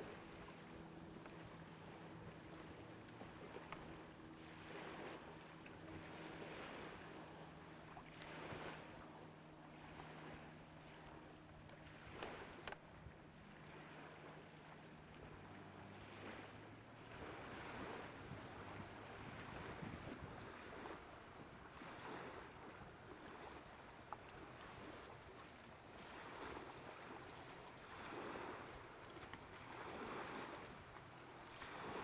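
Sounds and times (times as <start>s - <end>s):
faint wind: 0.0s - 32.0s
lake waves washing: 0.0s - 32.0s
steady low hum: 0.0s - 32.0s.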